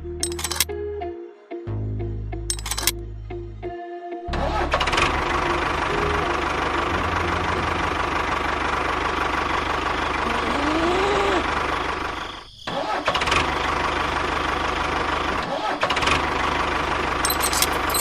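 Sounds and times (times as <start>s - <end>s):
small tractor engine running: 0.0s - 0.7s, 2.5s - 2.9s, 4.5s - 18.0s.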